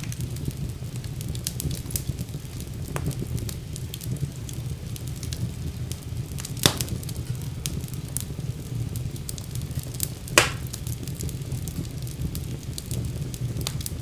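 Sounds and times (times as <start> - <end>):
fire burning in fireplace: 0.0 - 14.0
loud fire pops: 0.0 - 14.0.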